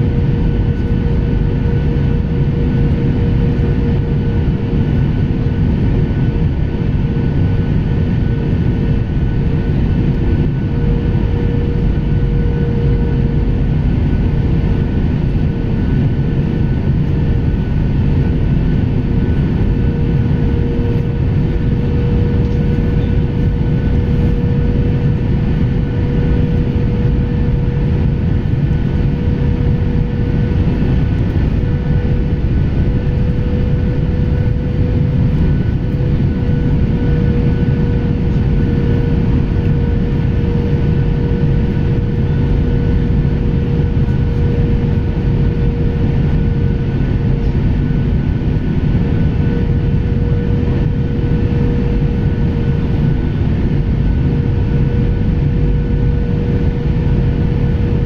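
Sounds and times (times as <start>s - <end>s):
constant cabin hum: 0.0s - 58.0s
jet engine and airflow rush: 0.0s - 58.0s.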